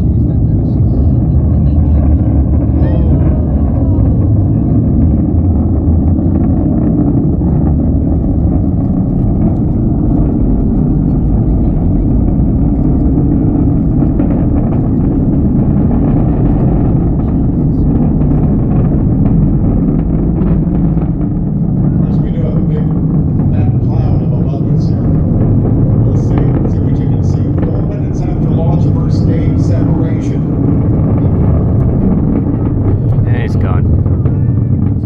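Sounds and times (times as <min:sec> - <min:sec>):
rocket engine roar: 0:00.0 - 0:35.0.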